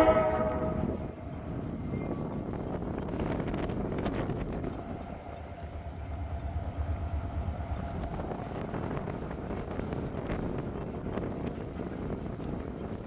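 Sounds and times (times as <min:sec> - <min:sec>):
diesel locomotive rumble: 0:00.0 - 0:13.0
rail and wheel noise: 0:00.0 - 0:13.0
wind on microphone: 0:00.0 - 0:13.0.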